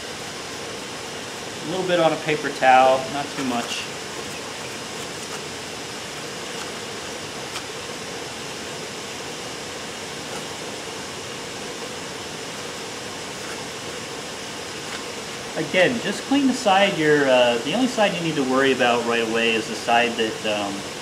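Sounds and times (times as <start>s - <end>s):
faint hum: 0.0s - 21.0s
room hiss: 0.0s - 21.0s.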